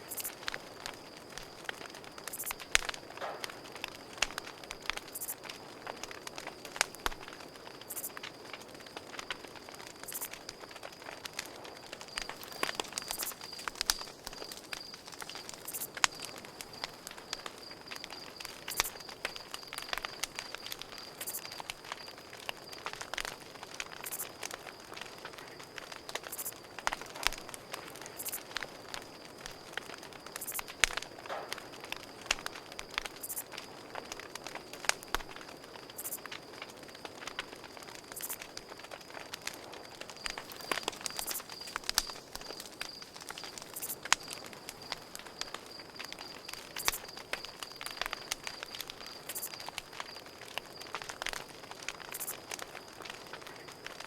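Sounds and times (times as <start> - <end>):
campfire crackling and popping: 0.0 - 54.0
cricket trill: 0.0 - 54.0.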